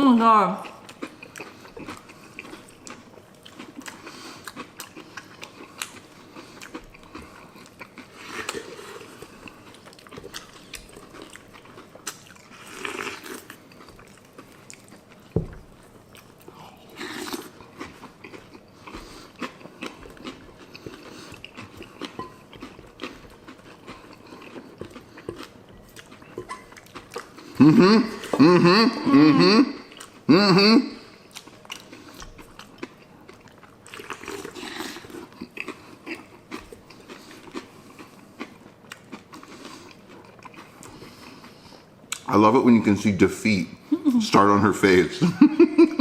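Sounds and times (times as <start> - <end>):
chewing and crunching cereal: 0.6 - 28.4, 31.2 - 42.8.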